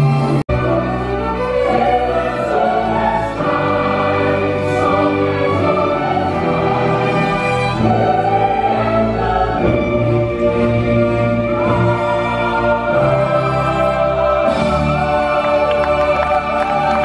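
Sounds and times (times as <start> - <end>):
orchestral accompaniment: 0.0 - 17.0
cast of singers singing together: 0.5 - 17.0.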